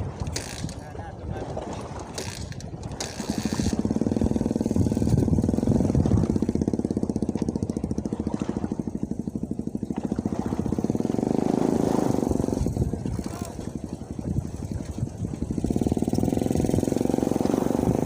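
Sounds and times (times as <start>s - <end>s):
small engine chugging: 2.2s - 18.0s.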